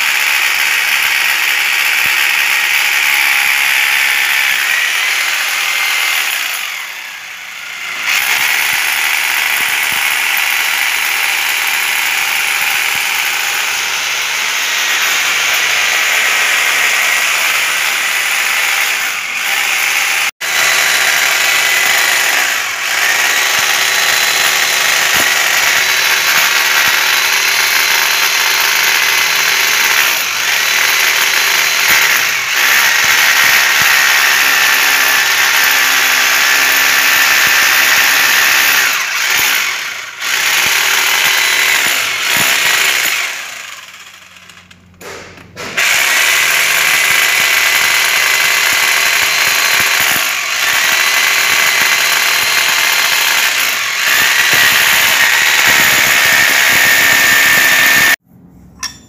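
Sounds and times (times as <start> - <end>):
hammer drill boring into wall: 0.0 - 44.9, 45.6 - 58.2.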